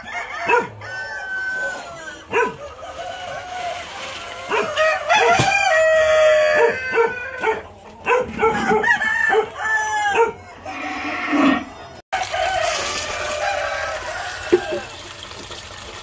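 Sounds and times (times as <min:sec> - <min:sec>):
rooster crowing: 0:00.0 - 0:07.6, 0:08.4 - 0:15.0
chickens clucking: 0:00.0 - 0:15.0
chickens calling: 0:00.0 - 0:15.2.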